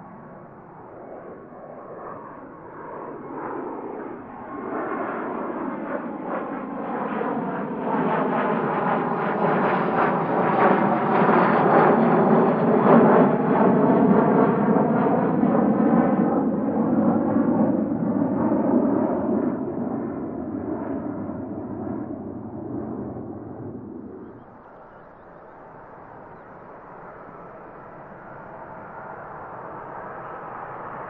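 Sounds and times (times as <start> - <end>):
jet aircraft passing: 0.0 - 31.0.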